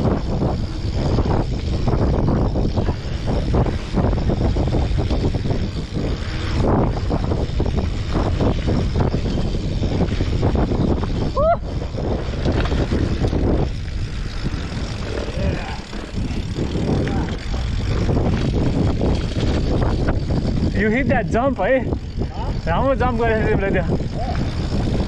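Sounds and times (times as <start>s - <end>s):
bike rattling over rough trail: 0.0s - 25.0s
wind rushing over microphone: 0.0s - 25.0s.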